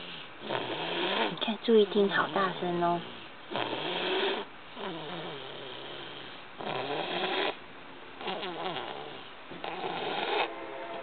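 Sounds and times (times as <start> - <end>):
toddler snoring loudly: 0.0 - 7.6, 8.2 - 10.6.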